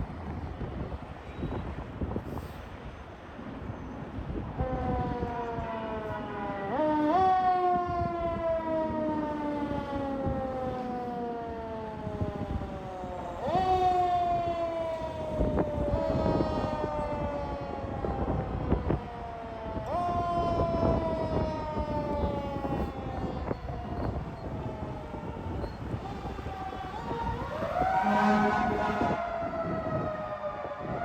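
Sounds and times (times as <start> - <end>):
fire truck siren: 0.0 - 2.8, 3.6 - 31.0.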